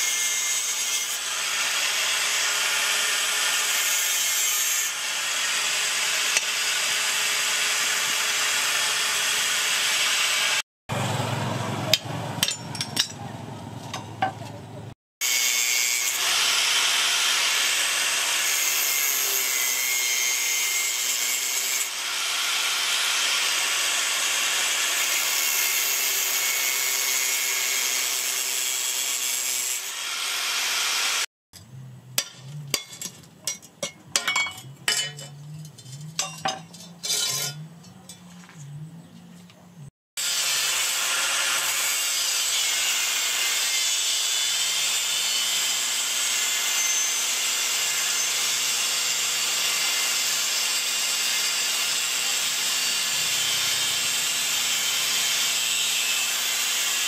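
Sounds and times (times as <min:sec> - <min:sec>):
angle grinder cutting steel: 0:00.0 - 0:11.1, 0:15.2 - 0:38.2, 0:40.2 - 0:57.0.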